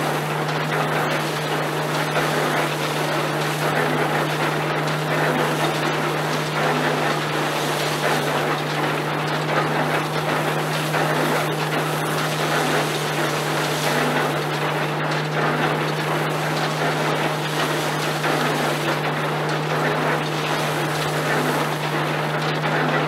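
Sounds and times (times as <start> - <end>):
threshing machine running: 0.0 - 23.0.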